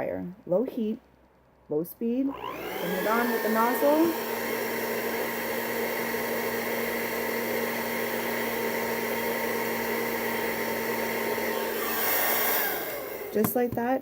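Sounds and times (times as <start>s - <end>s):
hair dryer running: 2.3s - 14.0s.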